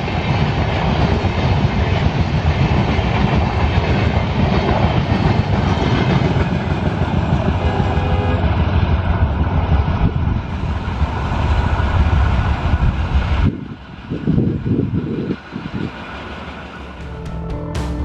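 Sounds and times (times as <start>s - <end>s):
passenger train rushing past: 0.0s - 18.0s.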